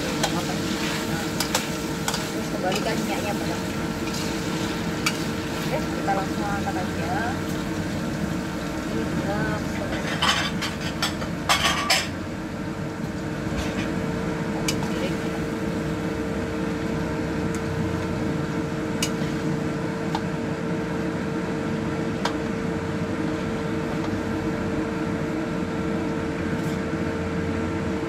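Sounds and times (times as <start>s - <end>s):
steady motor hum: 0.0s - 28.0s.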